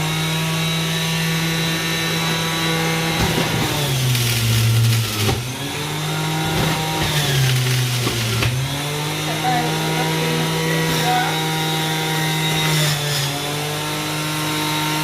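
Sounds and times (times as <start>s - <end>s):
electric juicer motor humming: 0.0s - 15.0s.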